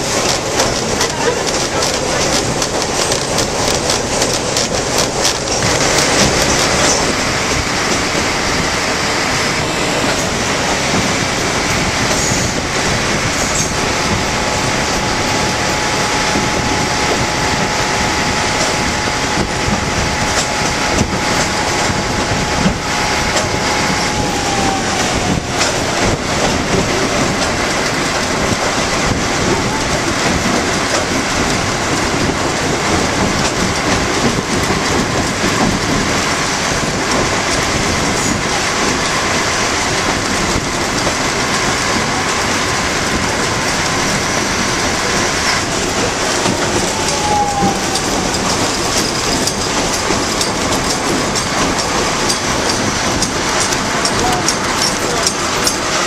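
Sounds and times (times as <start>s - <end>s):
train running rumble: 0.0s - 56.0s
wheels clickety-clack over rail joints: 0.0s - 56.0s.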